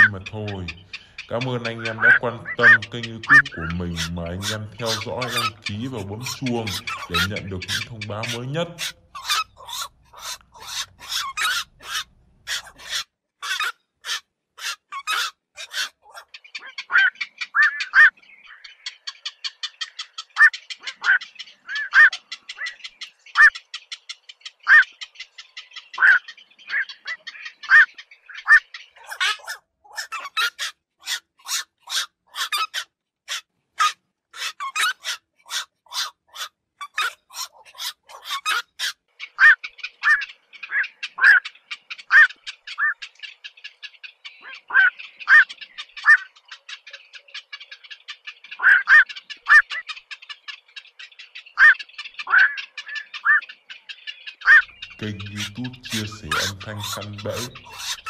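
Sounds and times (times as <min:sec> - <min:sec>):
herons calling: 0:00.0 - 0:58.0.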